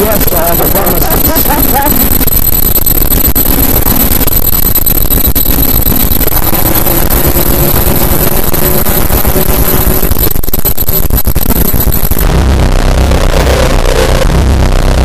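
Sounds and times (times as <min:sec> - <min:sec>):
harsh distorted noise music: 0:00.0 - 0:15.0.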